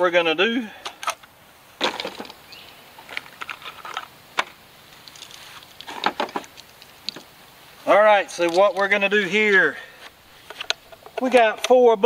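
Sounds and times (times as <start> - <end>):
shotgun and shells being handled: 0.8 - 7.3, 8.3 - 11.8.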